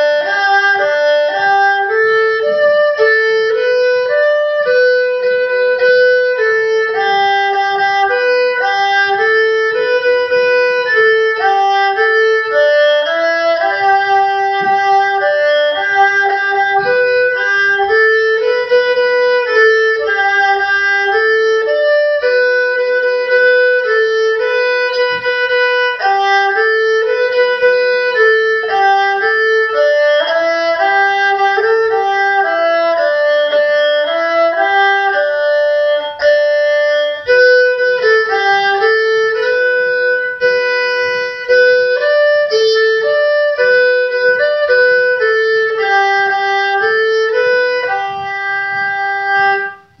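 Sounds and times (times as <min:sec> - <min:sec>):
bowed fiddle melody: 0:00.0 - 0:50.0.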